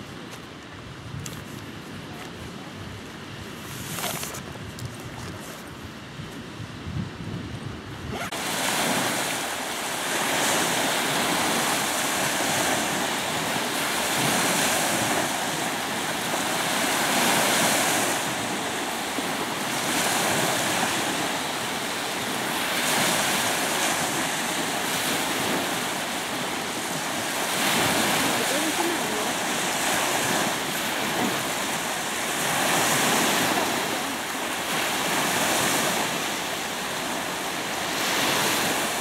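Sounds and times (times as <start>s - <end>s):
waves washing up shoreline: 0.0s - 39.0s.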